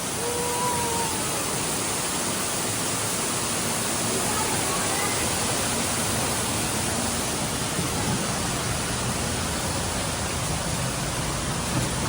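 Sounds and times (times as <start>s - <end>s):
steady rushing noise: 0.8s - 12.0s.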